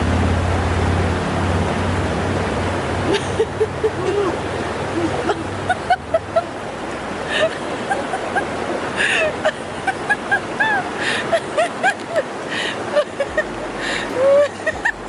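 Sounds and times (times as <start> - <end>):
water flowing in stream: 0.0 - 15.0.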